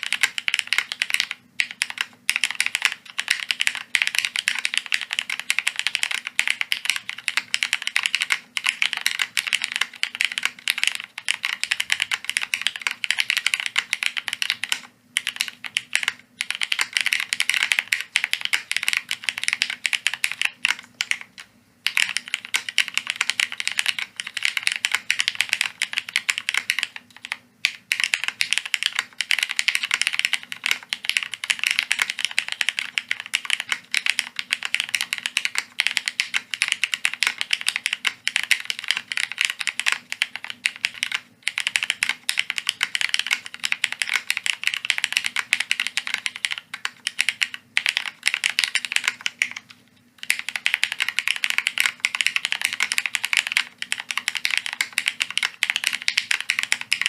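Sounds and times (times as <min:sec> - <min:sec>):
fast mechanical keyboard typing: 0:00.0 - 0:57.0.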